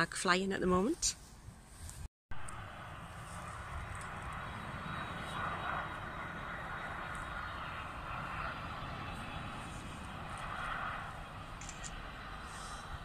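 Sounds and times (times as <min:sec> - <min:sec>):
low rumble: 0:01.8 - 0:13.0
jet airplane rushing: 0:02.3 - 0:13.0.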